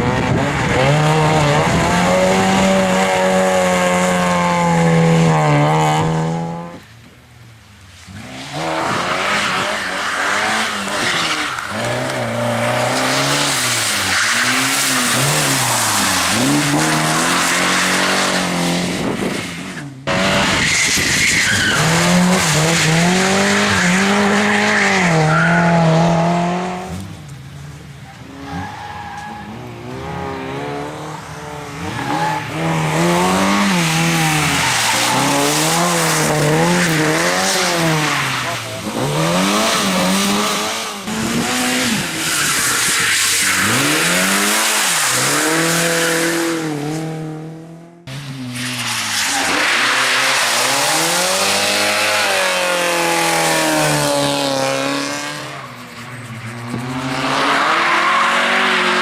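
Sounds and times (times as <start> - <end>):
rally car engines revving: 0.0 - 7.1, 8.0 - 59.0
tyres squealing and skidding: 8.1 - 26.4, 28.0 - 47.2, 48.1 - 59.0.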